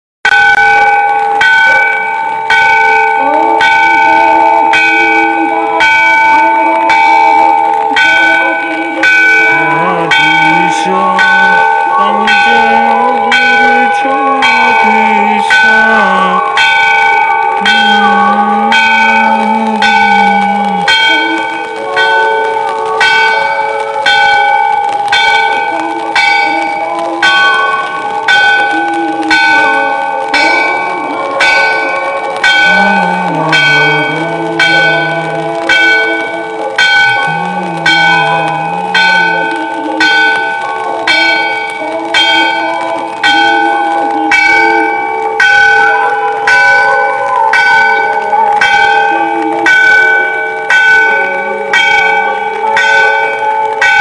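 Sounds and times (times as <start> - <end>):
temple bell ringing: 0.3 - 54.0.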